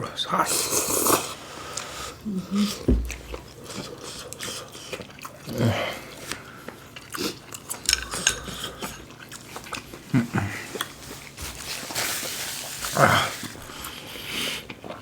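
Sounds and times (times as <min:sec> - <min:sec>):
chewing and slurping: 0:00.4 - 0:15.0.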